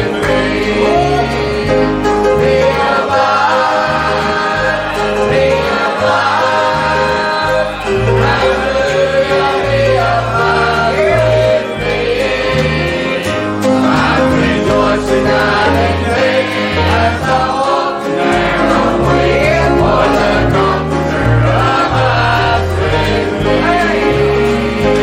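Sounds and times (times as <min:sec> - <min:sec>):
choir singing a gospel hymn: 0:00.0 - 0:25.0
instrumental accompaniment: 0:00.0 - 0:25.0.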